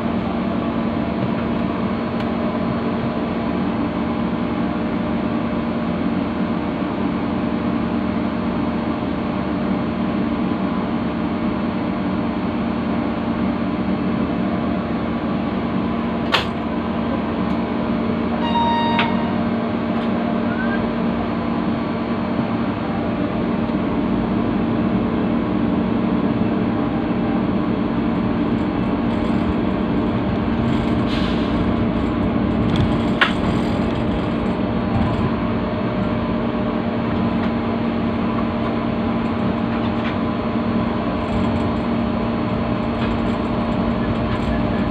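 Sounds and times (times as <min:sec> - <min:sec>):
diesel locomotive engine running: 0:00.0 - 0:44.9.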